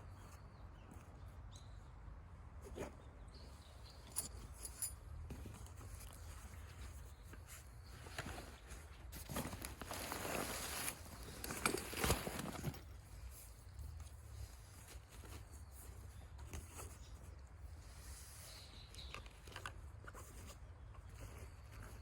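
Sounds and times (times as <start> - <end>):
rustling: 4.0 - 22.0.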